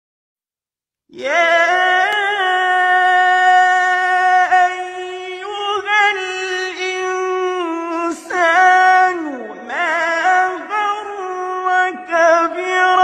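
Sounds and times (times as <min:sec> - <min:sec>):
man reciting melodically: 0:01.1 - 0:13.0.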